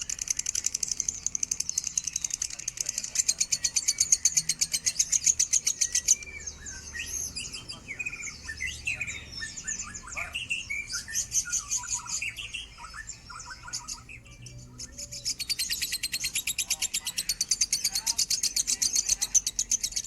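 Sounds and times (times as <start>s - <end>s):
lovebird high chirps: 0.0s - 20.0s.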